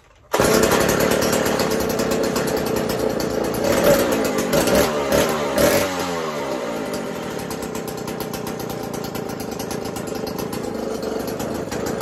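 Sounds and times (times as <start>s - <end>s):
chainsaw engine running rough: 0.3s - 12.0s.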